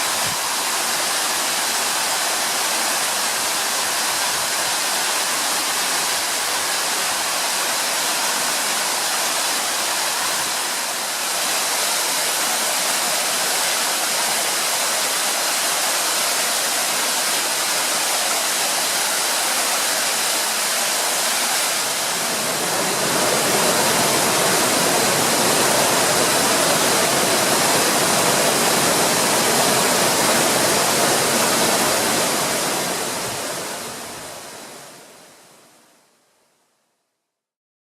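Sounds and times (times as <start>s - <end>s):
waterfall rushing: 0.0s - 35.6s.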